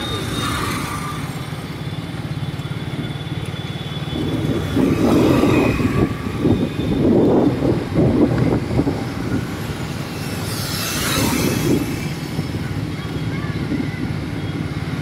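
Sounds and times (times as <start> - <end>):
road and wind noise: 0.0 - 15.0
small motorcycle engine running: 0.0 - 15.0.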